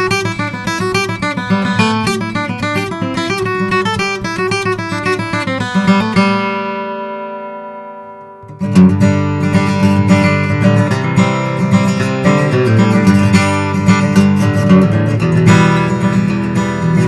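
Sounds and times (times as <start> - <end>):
acoustic guitar picked notes: 0.0 - 17.0
acoustic guitar strummed chords: 0.0 - 17.0.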